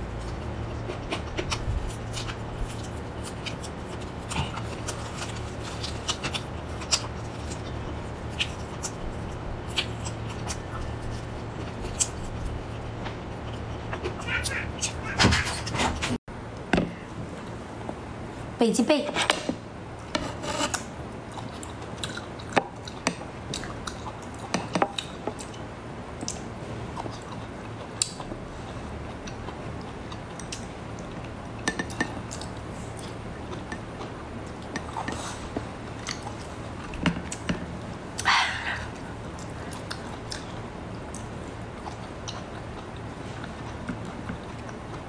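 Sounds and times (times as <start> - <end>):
steady low hum: 0.0 - 45.0
person chewing: 0.1 - 15.2, 20.7 - 25.6, 26.2 - 45.0.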